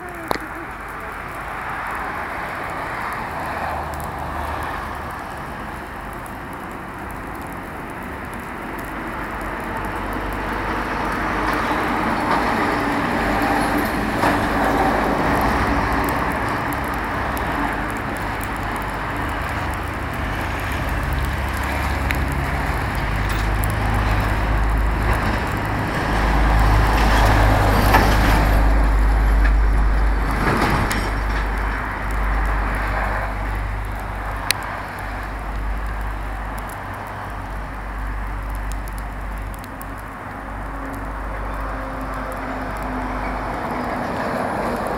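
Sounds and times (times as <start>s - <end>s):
bonfire burning: 0.0s - 44.9s.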